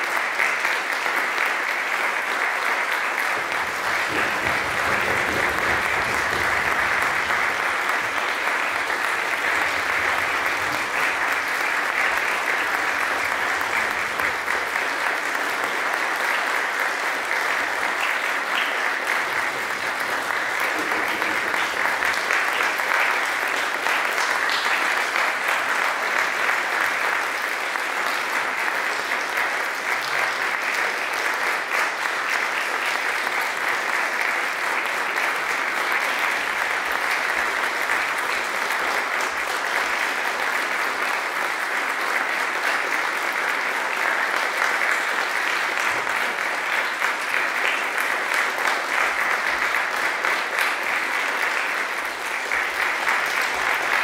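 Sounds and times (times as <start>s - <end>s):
crowd applauding: 0.0s - 54.0s.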